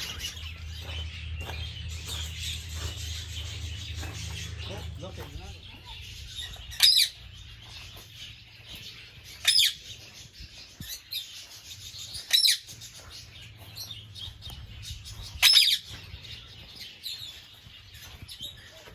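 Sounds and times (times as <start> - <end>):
faint bird chirping: 0.0 - 18.9.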